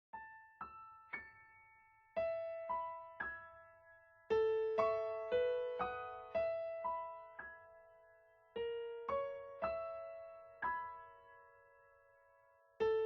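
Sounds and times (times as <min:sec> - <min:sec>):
slow solo piano: 0:00.1 - 0:13.0.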